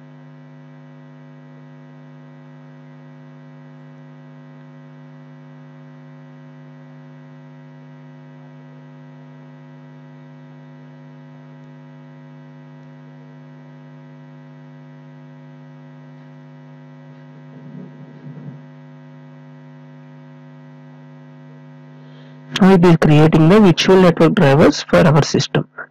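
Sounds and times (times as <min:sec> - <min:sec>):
electrical hum with stacked tones: 0:00.0 - 0:25.9.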